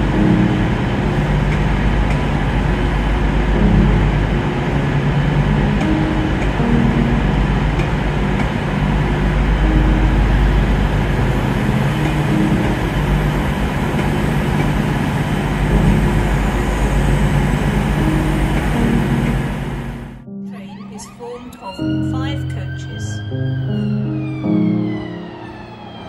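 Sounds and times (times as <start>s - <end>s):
train engine and running drone: 0.0s - 26.0s.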